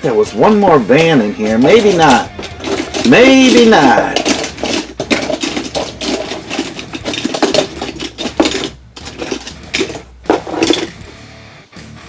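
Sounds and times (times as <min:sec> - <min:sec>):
metal toy cars clinking: 0:00.0 - 0:11.2.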